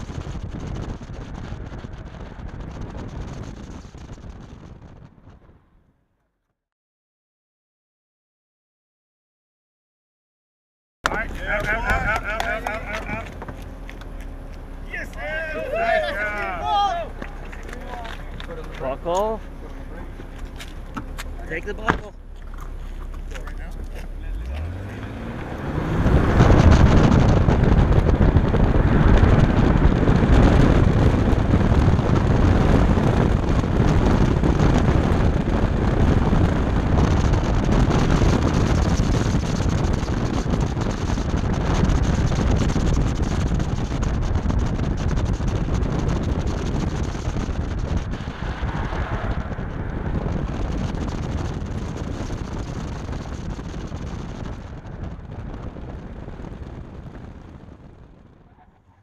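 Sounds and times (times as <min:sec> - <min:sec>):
wind noise on microphone: 0:00.0 - 0:06.1, 0:11.1 - 0:59.0
car engine accelerating hard: 0:11.1 - 0:59.0.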